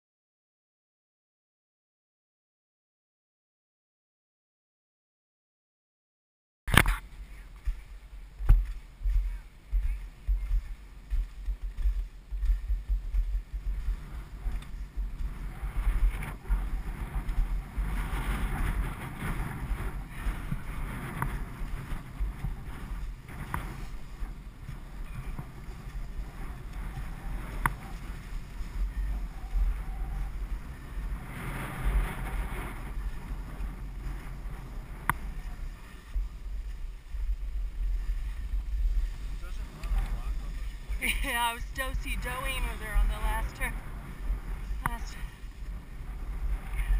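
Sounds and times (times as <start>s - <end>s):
wind buffeting microphone: 6.7s - 46.9s
skis sliding over snow: 6.8s - 46.9s.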